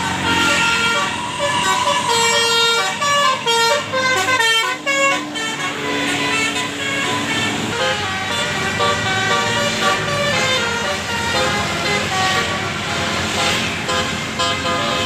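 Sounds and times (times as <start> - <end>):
bus multi-tone horn tune: 0.0 - 15.0.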